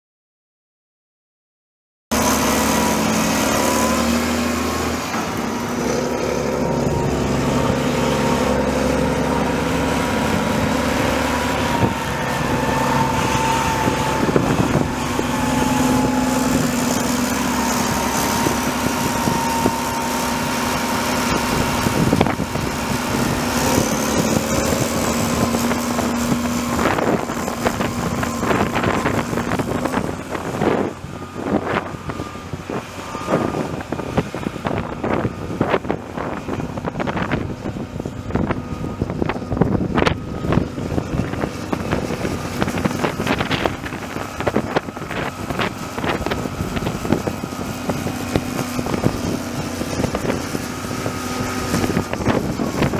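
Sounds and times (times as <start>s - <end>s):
tractor diesel engine running: 2.1s - 52.9s
wind buffeting microphone: 2.2s - 52.9s.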